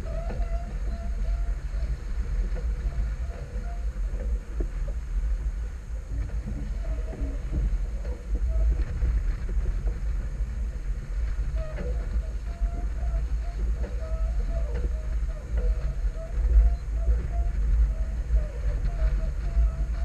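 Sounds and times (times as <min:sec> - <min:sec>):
water rushing along hull: 0:00.0 - 0:20.0
wind buffeting microphone: 0:00.0 - 0:20.0.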